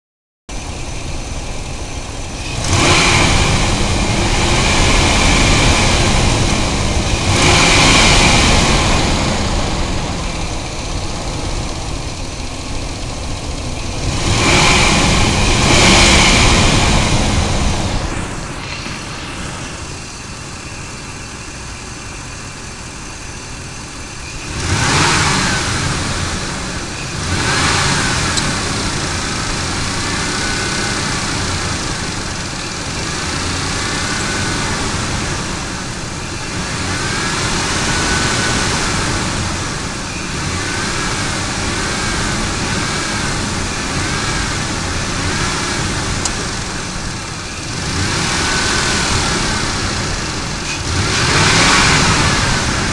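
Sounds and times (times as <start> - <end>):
truck engine idling and revving: 0.5 - 52.9.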